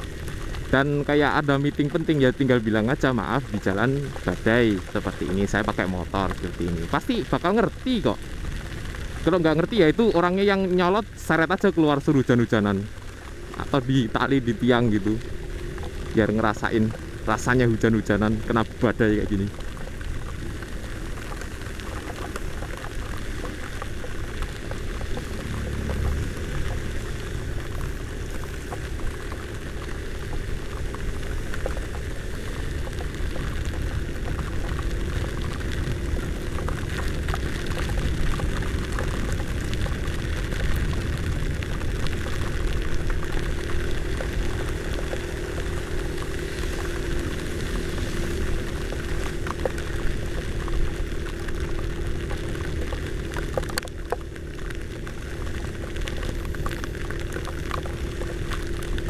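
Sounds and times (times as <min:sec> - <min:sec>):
heavy rain and wind rushing: 0:00.0 - 0:59.0
raindrops ticking on camera: 0:00.0 - 0:59.0.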